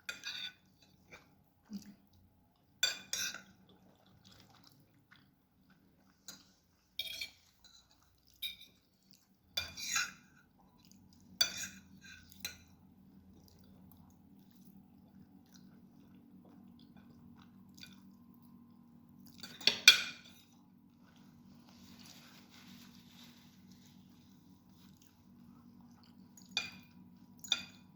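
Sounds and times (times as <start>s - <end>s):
soft chewing: 0.1s - 27.9s.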